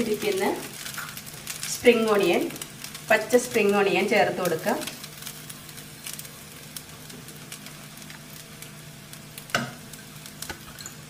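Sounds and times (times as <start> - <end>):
fried rice crackling: 0.0 - 11.0.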